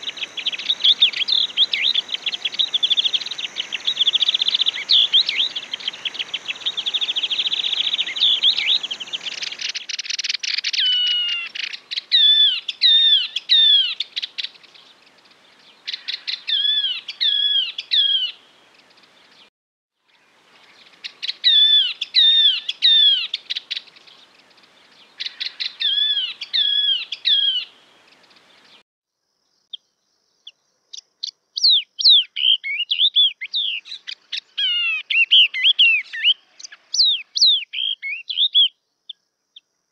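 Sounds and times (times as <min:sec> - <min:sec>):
bird singing: 0:00.0 - 0:19.5, 0:20.1 - 0:28.8, 0:29.4 - 0:39.7.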